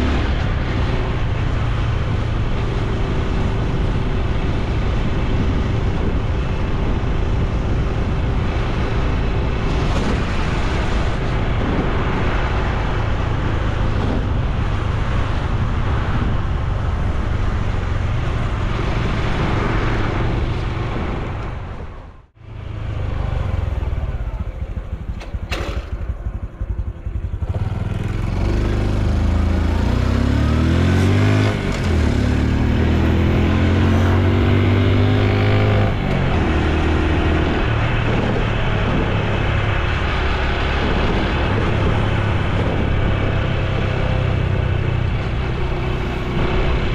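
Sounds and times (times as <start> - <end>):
wind rush: 0.0 - 25.4, 26.0 - 46.9
motorcycle engine while riding: 0.0 - 46.9.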